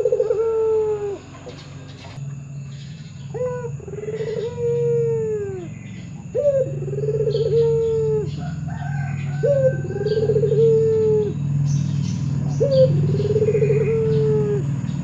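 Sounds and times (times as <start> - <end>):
dove cooing: 0.0 - 15.0
steady low hum: 0.0 - 15.0.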